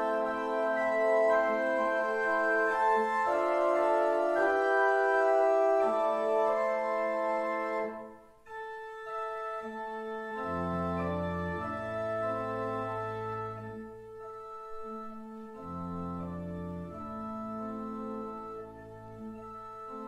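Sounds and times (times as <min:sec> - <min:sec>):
church organ chords: 0:00.0 - 0:20.0
low organ pedal notes: 0:00.0 - 0:20.0.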